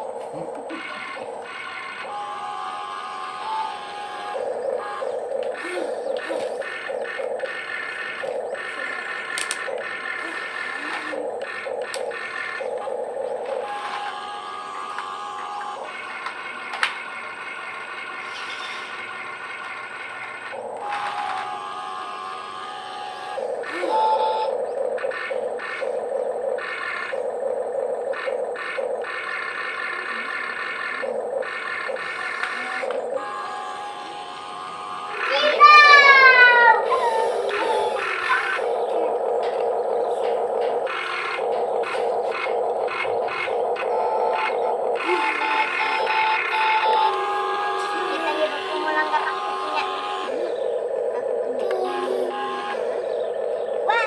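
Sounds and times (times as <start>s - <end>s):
electric motors whirring: 0.0s - 54.0s.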